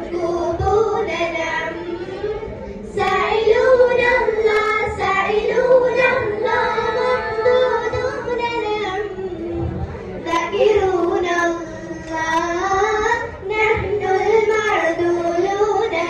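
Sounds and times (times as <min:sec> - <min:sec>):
girls singing into microphones: 0:00.0 - 0:16.0.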